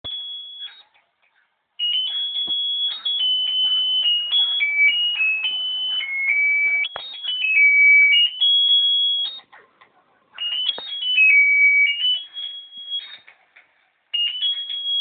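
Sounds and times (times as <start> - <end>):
electronic toy tune beeping: 0.0 - 0.9, 1.8 - 9.5, 10.4 - 13.3, 14.2 - 15.0.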